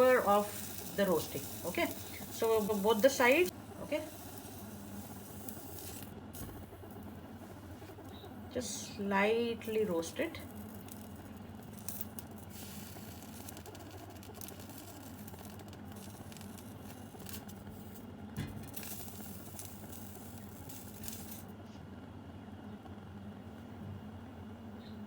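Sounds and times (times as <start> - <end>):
food crackling over flame: 0.0 - 21.6
gas burner hissing: 0.0 - 21.6.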